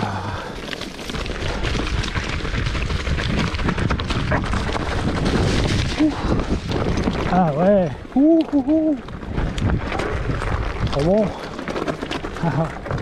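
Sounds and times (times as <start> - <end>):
bike clattering over rough trail: 0.0 - 13.0
wind rumbling on microphone: 1.0 - 13.0.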